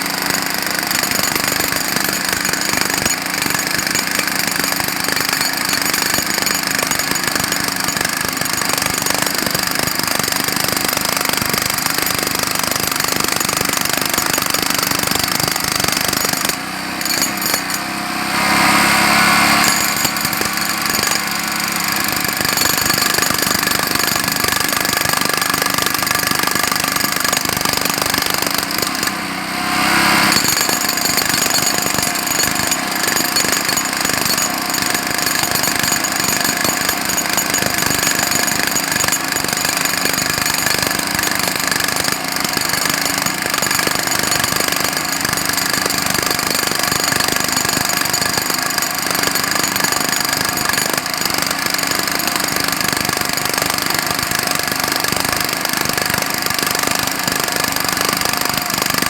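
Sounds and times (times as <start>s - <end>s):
jackhammer hammering: 0.0s - 59.0s.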